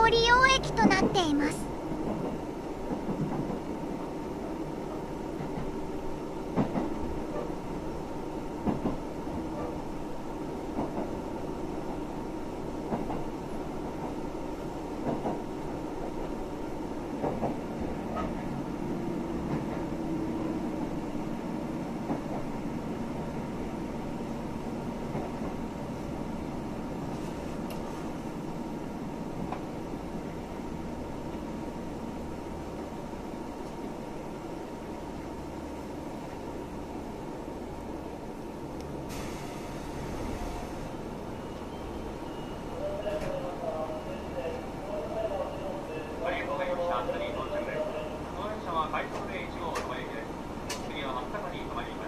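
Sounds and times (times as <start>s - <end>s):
railcar rumble: 0.0s - 52.0s.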